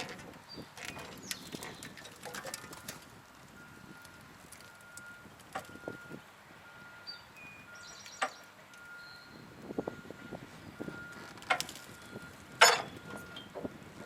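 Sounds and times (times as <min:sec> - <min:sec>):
vehicle reversing alarm beeping: 0:02.4 - 0:14.0.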